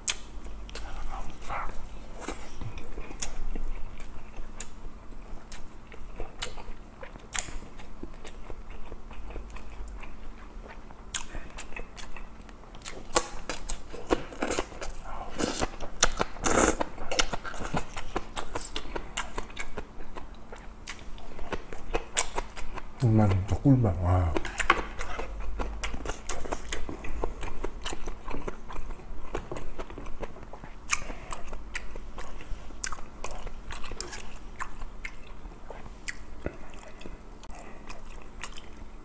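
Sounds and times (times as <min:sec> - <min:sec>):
wet chewing and lip smacks: 0:00.0 - 0:23.0, 0:24.4 - 0:38.8.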